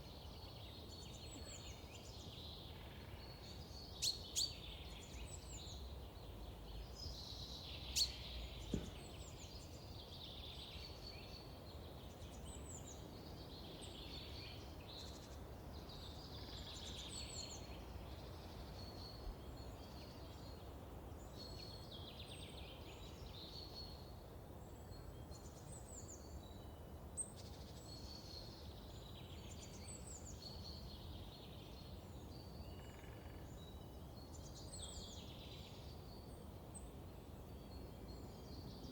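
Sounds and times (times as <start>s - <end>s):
low background hiss: 0.0s - 38.9s.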